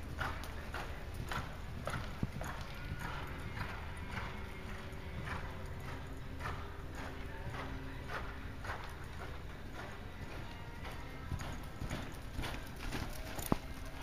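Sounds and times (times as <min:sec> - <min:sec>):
horse hoofbeats on sand: 0:00.0 - 0:14.0.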